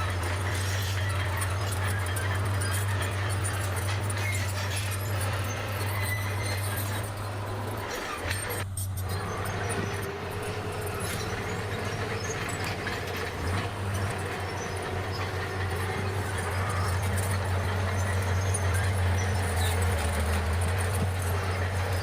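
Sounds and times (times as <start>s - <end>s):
bulldozer diesel engine under load: 0.0s - 22.0s
clattering clicks and knocks: 0.0s - 22.0s.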